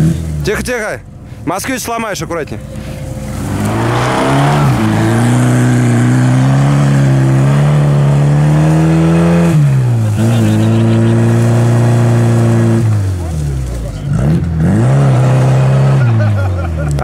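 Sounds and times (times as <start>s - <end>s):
car engine revving hard: 2.7s - 17.0s.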